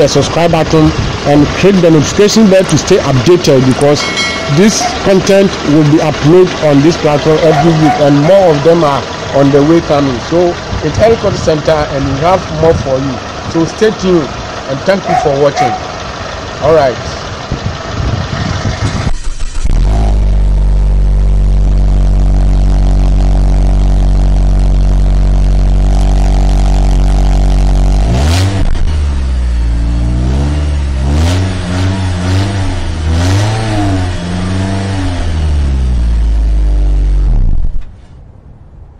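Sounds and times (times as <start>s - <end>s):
car engine running and revving: 0.0s - 37.9s.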